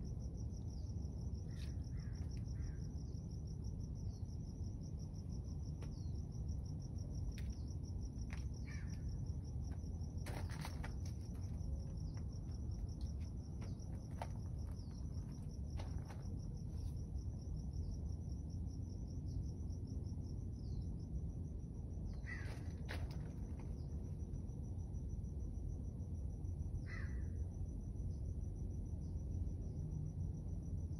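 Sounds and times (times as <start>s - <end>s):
insects trilling: 0.0s - 30.9s
low steady rumble: 0.0s - 30.9s.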